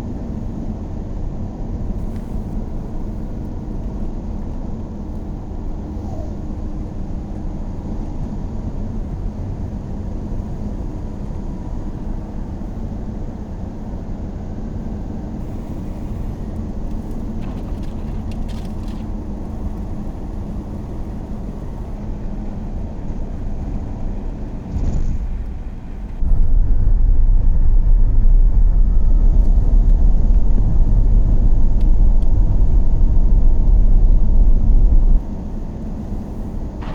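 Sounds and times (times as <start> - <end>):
faint hum: 0.0 - 36.9
vehicle engine and road rumble: 0.0 - 36.9.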